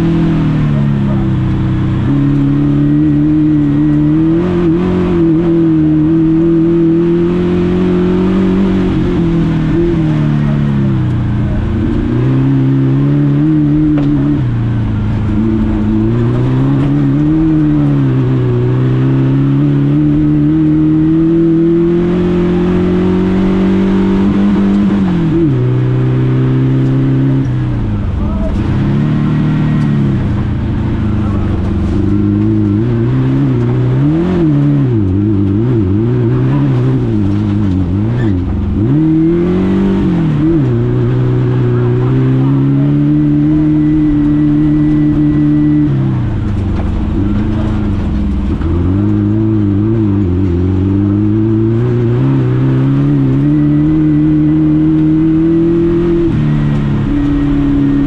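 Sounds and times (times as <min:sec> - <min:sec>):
rally car engine accelerating: 0:00.0 - 0:58.0.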